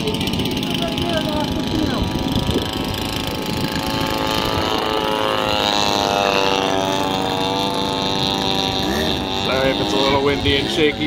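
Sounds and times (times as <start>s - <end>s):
model plane motor droning: 0.0s - 11.0s
wind buffeting microphone: 0.0s - 11.0s.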